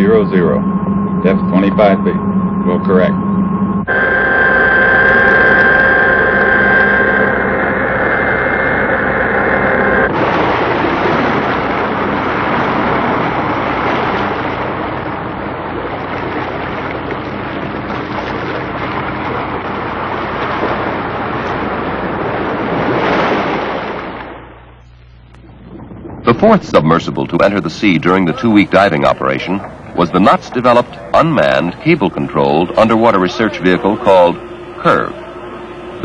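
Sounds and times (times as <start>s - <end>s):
machine hum with whining tones: 0.0s - 36.0s
steady rushing noise: 0.0s - 36.0s.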